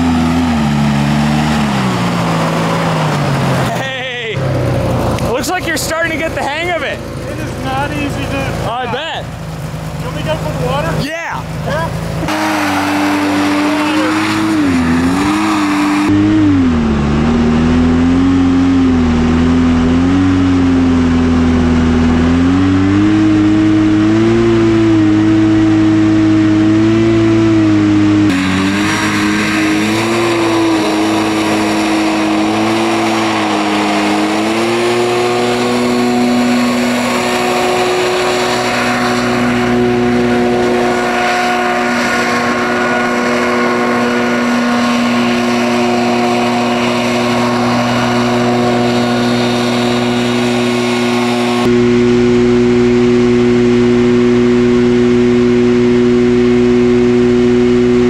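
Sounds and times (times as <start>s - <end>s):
hovercraft engine and fan running: 0.0s - 12.3s, 23.3s - 58.0s.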